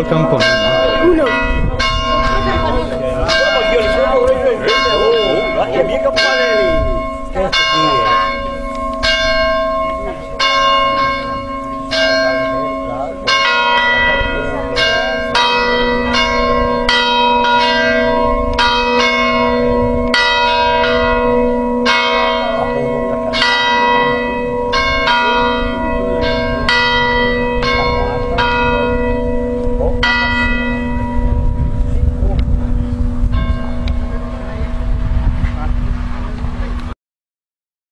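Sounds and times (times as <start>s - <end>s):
church bells pealing: 0.0s - 36.2s.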